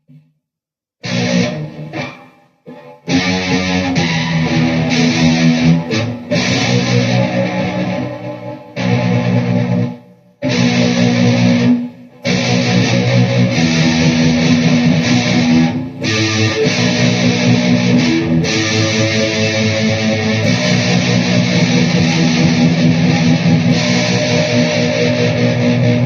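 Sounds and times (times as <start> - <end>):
distorted electric guitar chords: 1.0 - 26.0.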